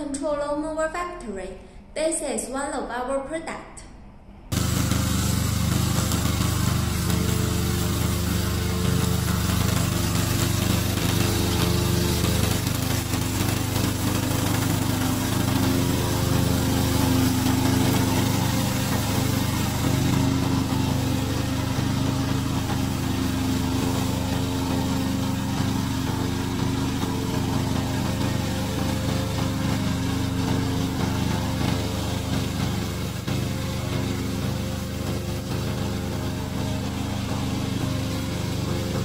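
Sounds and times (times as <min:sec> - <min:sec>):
high hiss: 0:04.5 - 0:39.0
lawn mower engine cutting grass: 0:04.5 - 0:39.0.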